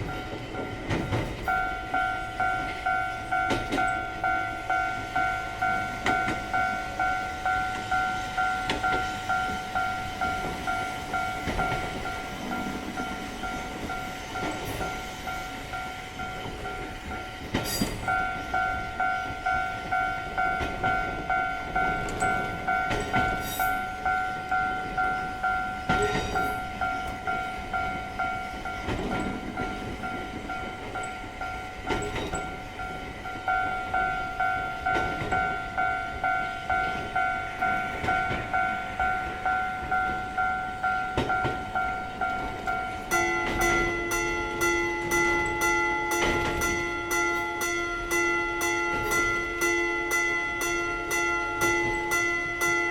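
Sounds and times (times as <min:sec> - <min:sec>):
railroad crossing bell: 0:00.0 - 0:52.9
train passing: 0:00.0 - 0:52.9.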